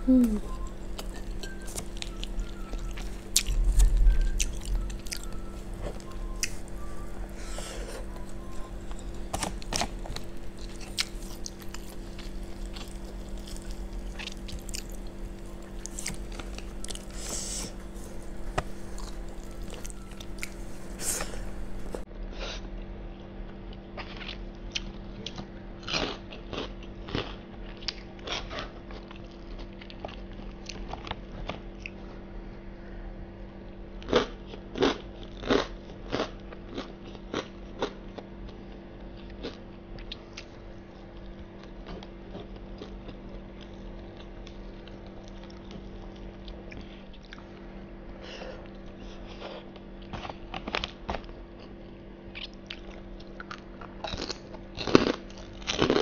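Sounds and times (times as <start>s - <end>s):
person chewing food: 0.0s - 22.6s, 24.0s - 32.0s, 34.0s - 47.7s, 48.4s - 56.0s.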